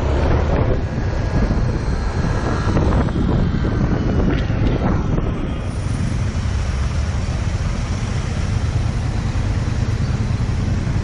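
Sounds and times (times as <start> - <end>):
road noise: 0.0 - 11.0
wind rumble: 0.0 - 11.0.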